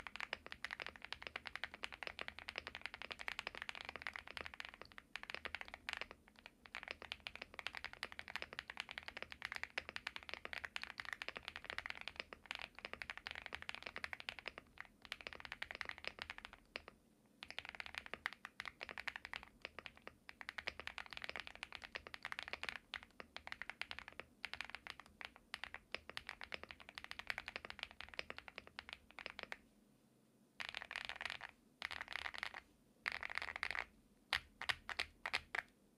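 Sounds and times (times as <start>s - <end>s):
mechanical keyboard typing: 0.0s - 29.6s, 30.6s - 35.6s.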